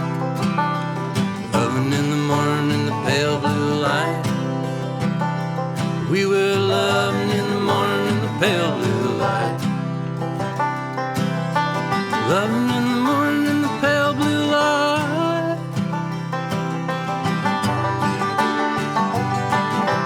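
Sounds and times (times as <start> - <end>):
country folk band playing: 0.0 - 20.0
sliding bending lead guitar: 0.0 - 20.0.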